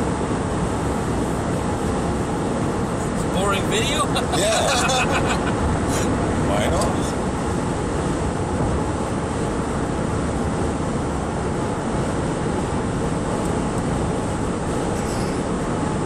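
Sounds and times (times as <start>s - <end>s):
car cabin road noise: 0.0s - 16.0s.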